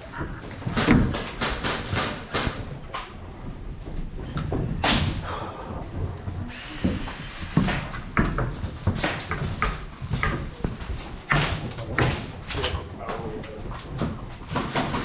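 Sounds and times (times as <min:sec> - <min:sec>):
knocks and thuds: 0:00.0 - 0:15.0.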